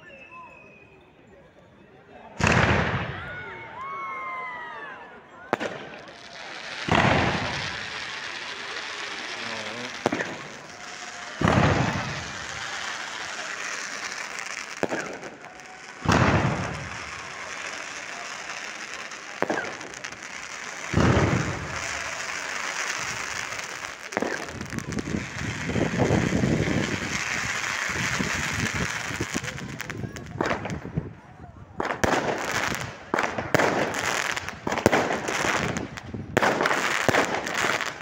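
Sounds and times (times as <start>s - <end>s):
firework booms: 2.4s - 3.3s, 5.5s - 38.0s
sharp firework cracks: 2.4s - 3.4s, 5.5s - 31.0s, 31.8s - 38.0s
dense firework crackling: 2.4s - 3.6s, 5.5s - 38.0s.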